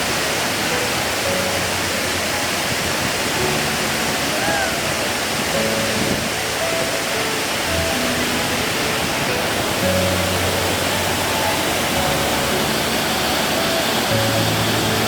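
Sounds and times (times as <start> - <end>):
slow melodic background music: 0.0 - 15.0
waterfall rushing: 0.0 - 15.0.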